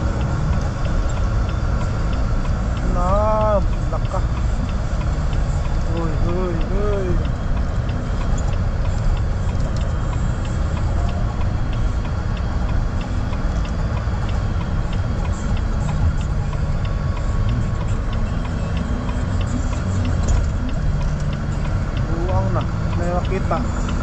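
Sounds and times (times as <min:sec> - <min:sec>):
car engine and road rumble: 0:00.0 - 0:24.0
turn signal ticking: 0:00.0 - 0:24.0.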